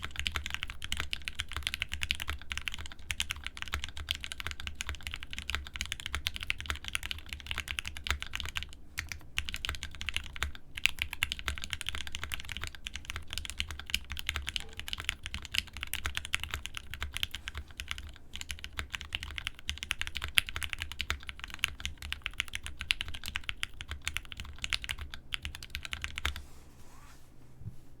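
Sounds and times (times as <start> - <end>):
mechanical keyboard typing: 0.0 - 26.4.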